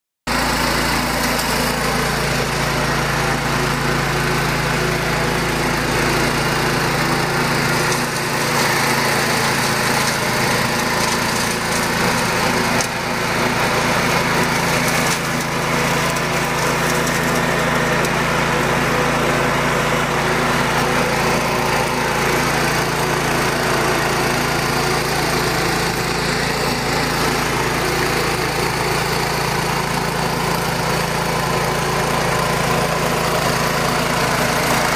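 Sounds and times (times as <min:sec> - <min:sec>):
garden tractor engine running: 0:00.3 - 0:34.9.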